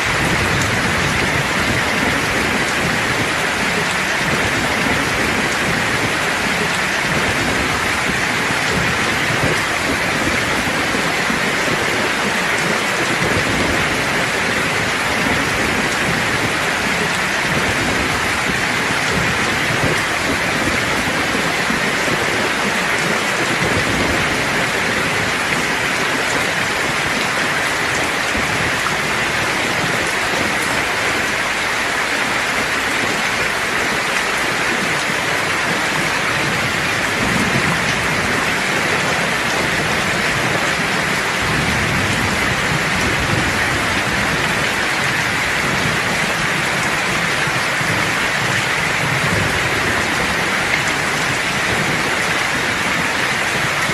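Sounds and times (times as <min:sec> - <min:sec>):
low thunder rumbling: 0:00.0 - 0:31.6, 0:32.4 - 0:53.9
heavy rain pouring: 0:00.0 - 0:53.9.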